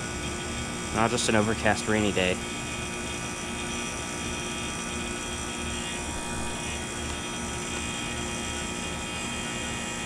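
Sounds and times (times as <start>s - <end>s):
heat pump humming: 0.0s - 10.0s.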